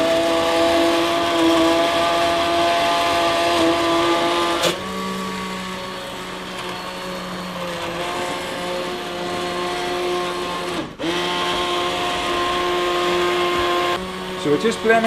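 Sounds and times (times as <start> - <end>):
hand blender motor whining: 0.0 - 15.0.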